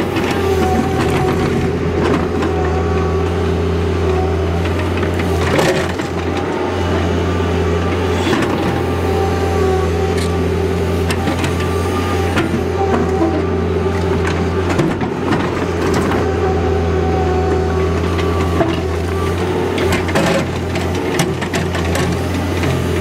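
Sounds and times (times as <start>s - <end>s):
diesel engine under load: 0.0s - 23.0s
engine whine: 0.0s - 23.0s.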